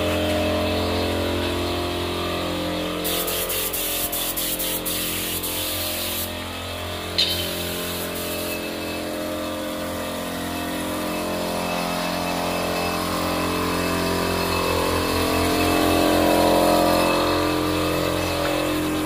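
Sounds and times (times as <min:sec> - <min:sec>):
motor droning hum: 0:00.0 - 0:19.0.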